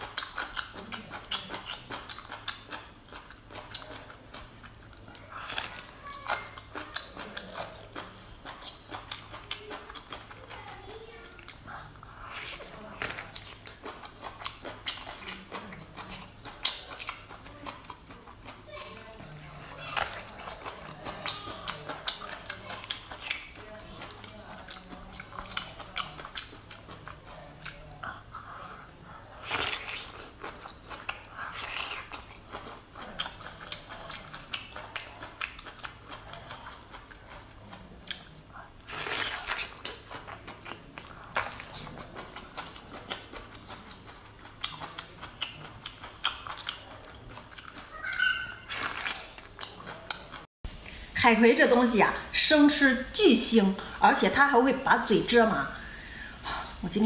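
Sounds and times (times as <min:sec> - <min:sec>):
chewing rubbery kelp: 0:00.0 - 0:50.5.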